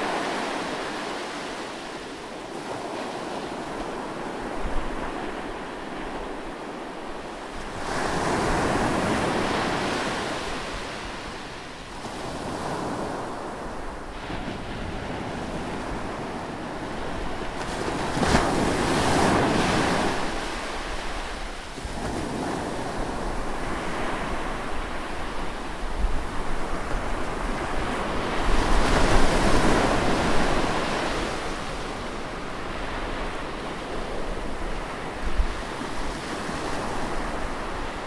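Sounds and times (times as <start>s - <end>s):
ocean waves breaking on boulders: 0.0s - 38.0s.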